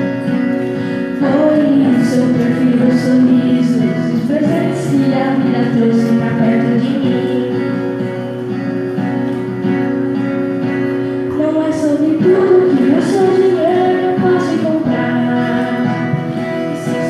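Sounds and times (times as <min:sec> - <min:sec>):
person singing: 0:00.0 - 0:08.4, 0:11.0 - 0:17.0
acoustic guitar: 0:00.0 - 0:17.0.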